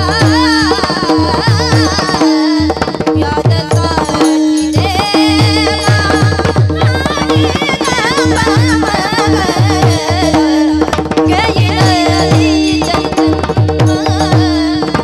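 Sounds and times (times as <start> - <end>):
hand drum strokes: 0.0 - 15.0
woman singing: 0.0 - 15.0.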